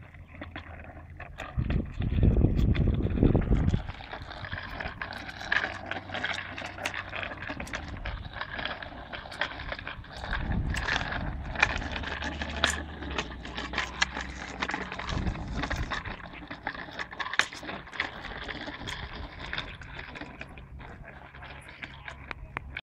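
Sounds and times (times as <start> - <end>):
bicycle wheels rattling on concrete: 0.0 - 22.8.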